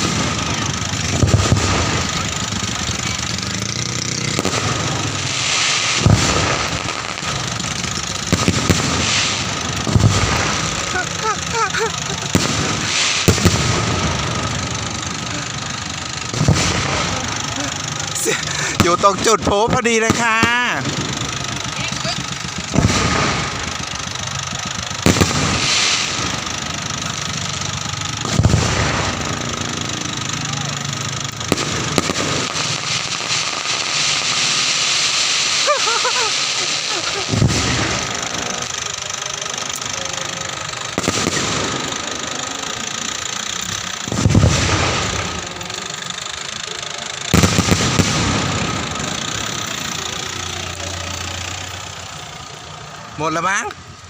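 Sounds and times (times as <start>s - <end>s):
fireworks bangs: 0.0s - 54.0s
fireworks crackling fizz: 0.0s - 54.0s.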